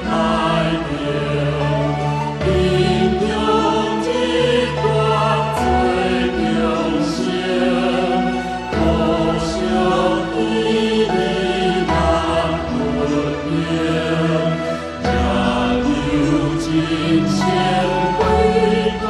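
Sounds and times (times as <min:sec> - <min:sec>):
choir singing slow chant: 0:00.0 - 0:19.0.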